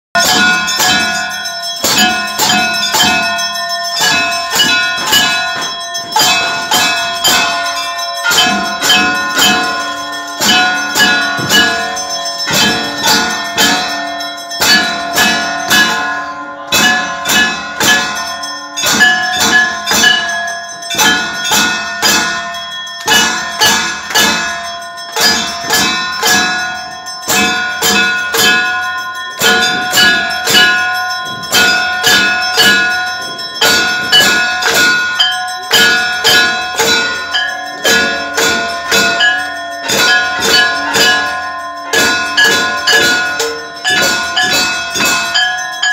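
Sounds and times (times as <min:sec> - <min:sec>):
temple bells ringing: 0:00.2 - 0:45.9.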